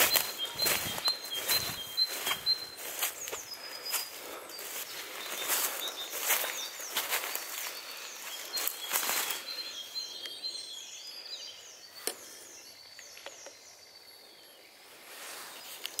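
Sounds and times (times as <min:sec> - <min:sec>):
birdsong down-slurred notes: 0:00.0 - 0:14.7
thin whistled bird calls: 0:00.0 - 0:16.0.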